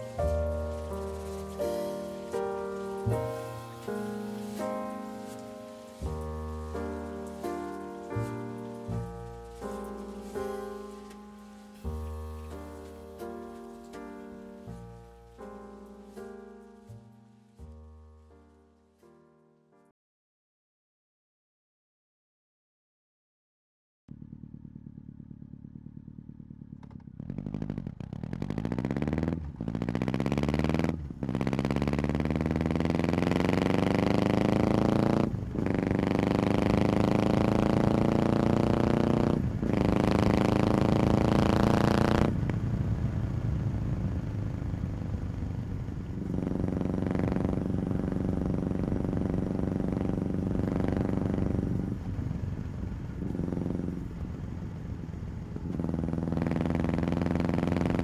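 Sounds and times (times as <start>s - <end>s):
motorcycle engine accelerating: 0.0s - 18.1s, 24.1s - 58.0s.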